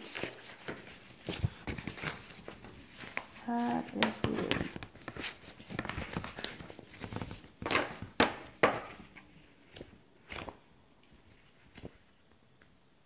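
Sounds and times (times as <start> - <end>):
packaging rustling: 0.0 - 12.1.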